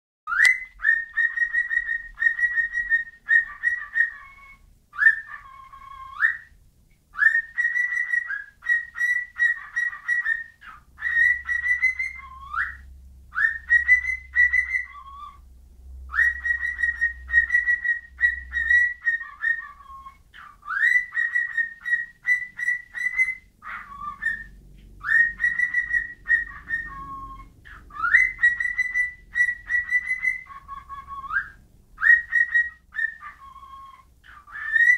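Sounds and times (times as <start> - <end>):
bird whistling a tune: 0.3 - 15.4, 16.1 - 34.9.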